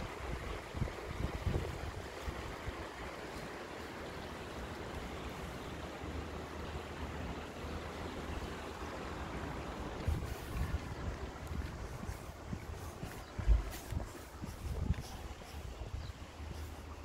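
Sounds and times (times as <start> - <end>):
floodwater rushing through street: 0.0 - 17.0.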